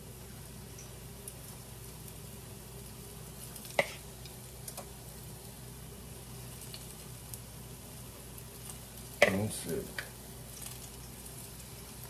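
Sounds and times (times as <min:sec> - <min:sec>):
batter sizzling in oil: 0:00.0 - 0:12.0.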